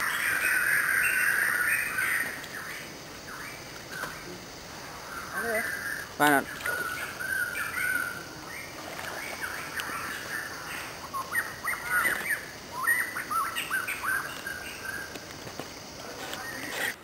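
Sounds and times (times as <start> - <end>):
birds chirping: 0.0 - 15.3.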